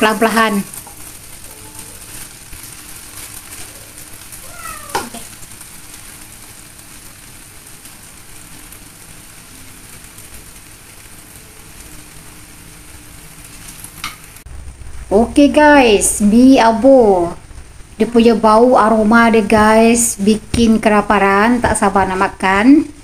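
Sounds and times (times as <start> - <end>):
noodles sizzling in frying pan: 0.0 - 23.0.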